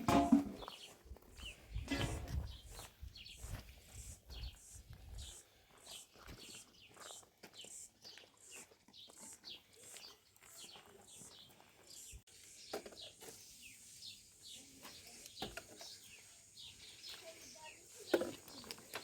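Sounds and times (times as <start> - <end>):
small birds chirping: 0.6 - 19.0.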